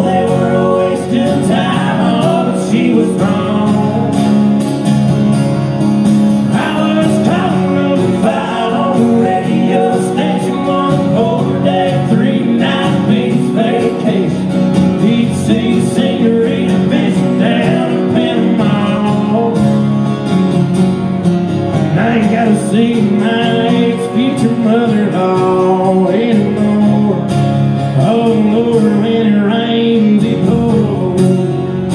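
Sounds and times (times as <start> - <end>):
man singing: 0.0 - 4.6, 6.5 - 19.9, 21.9 - 31.9
acoustic guitars strumming: 0.0 - 31.9.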